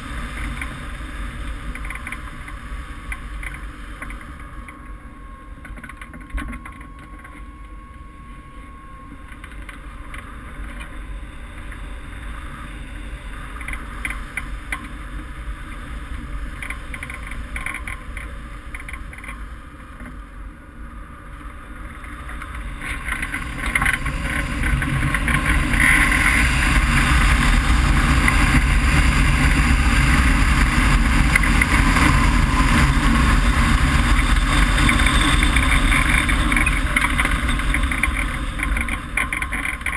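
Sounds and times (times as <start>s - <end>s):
wind rushing over camera: 0.0s - 5.0s, 9.1s - 39.9s.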